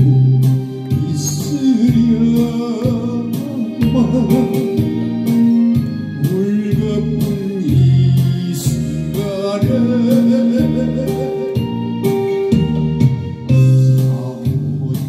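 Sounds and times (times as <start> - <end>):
man singing into a microphone: 0.0 - 5.4, 6.0 - 15.0
organ backing track: 0.0 - 15.0
steady beat: 0.0 - 15.0.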